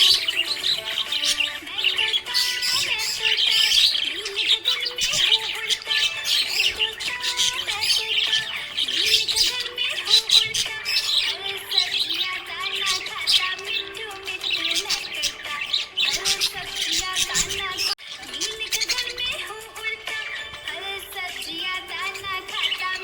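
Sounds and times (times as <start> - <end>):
parrots chirping and squawking: 0.0 - 23.0
soft background music: 0.0 - 23.0.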